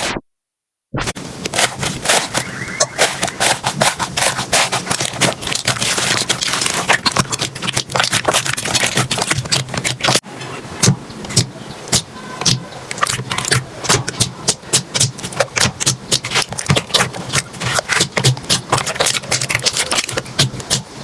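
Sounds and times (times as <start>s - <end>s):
slime crackling and popping: 1.4s - 10.2s, 11.3s - 21.0s.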